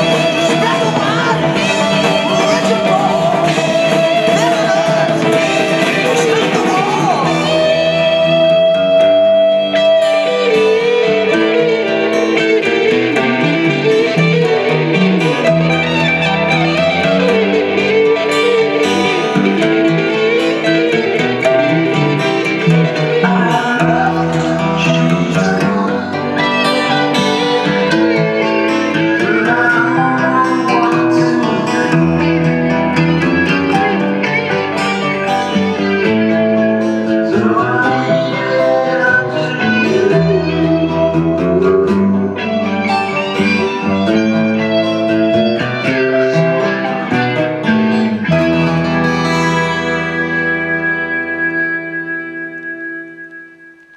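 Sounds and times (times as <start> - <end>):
guitar-led instrumental music: 0.0 - 53.9.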